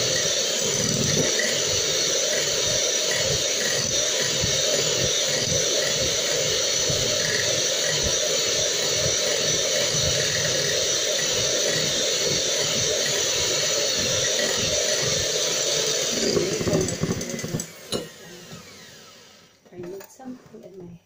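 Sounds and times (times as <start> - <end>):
electric hand mixer whisking: 0.0 - 20.4.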